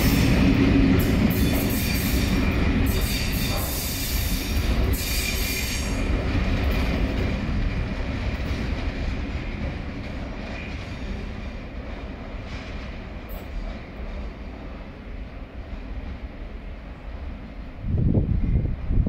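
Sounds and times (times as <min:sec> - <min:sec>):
freight wagons rumbling on rails: 0:00.0 - 0:19.0.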